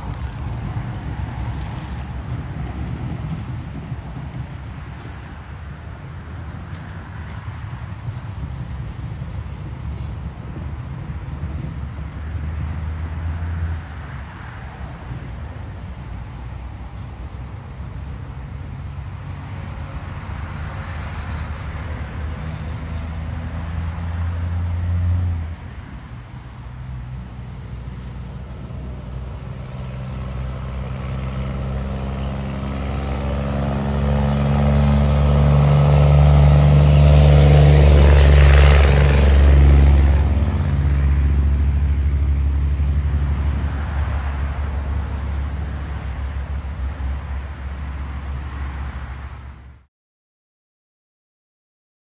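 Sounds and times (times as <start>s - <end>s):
cars passing on road: 0.0s - 49.9s.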